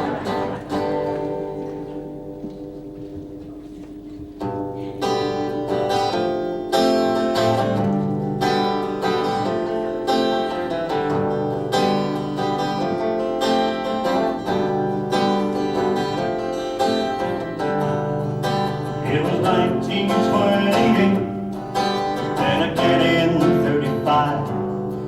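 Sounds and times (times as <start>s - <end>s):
acoustic guitar strumming chords: 4.4s - 25.0s.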